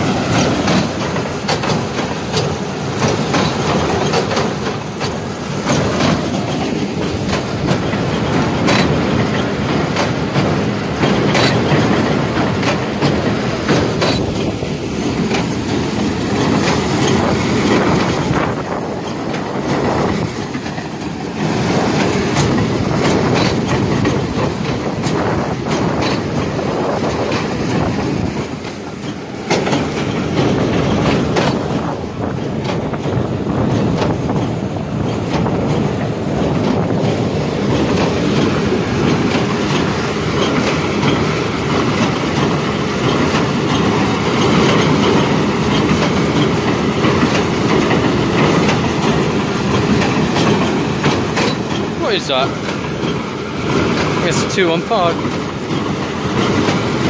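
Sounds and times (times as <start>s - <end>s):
baler clattering and knocking: 0.0s - 57.0s
tractor engine running: 0.0s - 57.0s.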